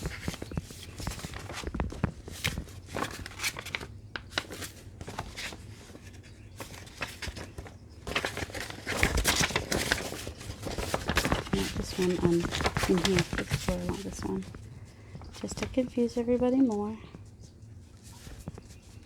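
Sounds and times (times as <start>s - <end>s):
paper rustling: 0.0s - 16.9s, 17.5s - 19.0s.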